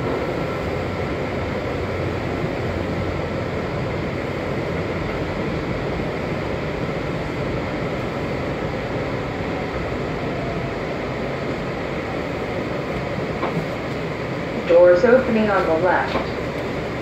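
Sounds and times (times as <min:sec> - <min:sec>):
train car rumbling: 0:00.0 - 0:17.0.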